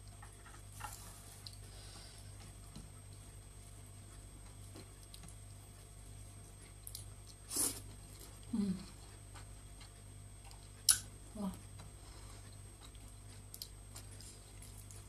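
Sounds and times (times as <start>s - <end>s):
person chewing food: 0.1s - 15.0s.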